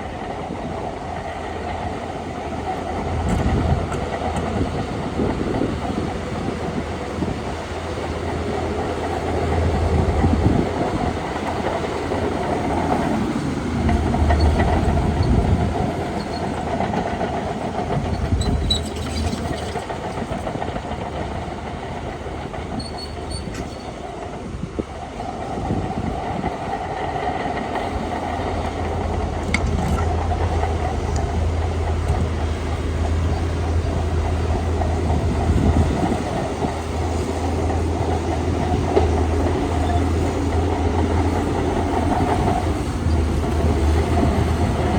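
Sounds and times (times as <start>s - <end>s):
bulldozer diesel engine rumbling: 0.0s - 44.9s
steel tracks clanking: 0.0s - 44.9s.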